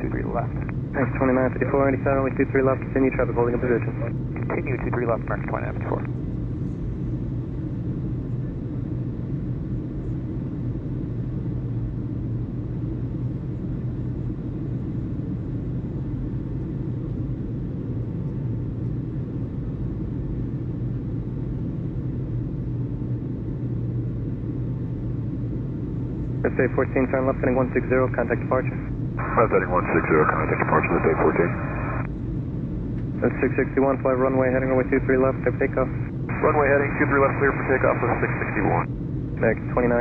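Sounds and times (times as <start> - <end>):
constant low hum: 0.0 - 40.0
steady low rumble: 0.0 - 40.0.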